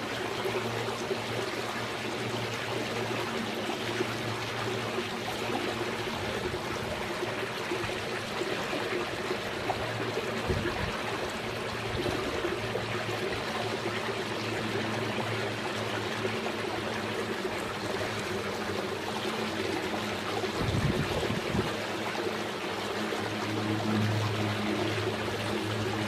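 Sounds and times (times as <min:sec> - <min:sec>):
low steady hum: 0:00.0 - 0:26.0
trickling water: 0:00.0 - 0:26.0.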